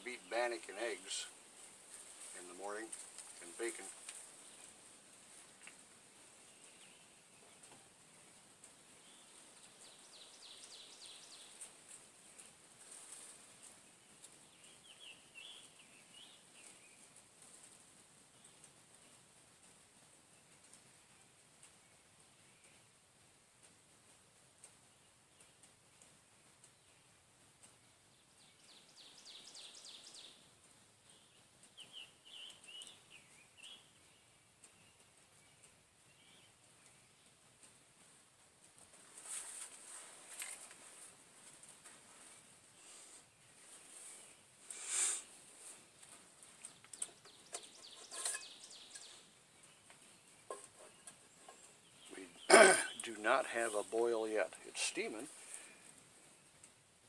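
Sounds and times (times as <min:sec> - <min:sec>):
faint songbird singing: 0:00.0 - 0:23.1, 0:24.6 - 0:38.2, 0:39.0 - 0:57.0
faint bird chirping: 0:00.0 - 0:57.0.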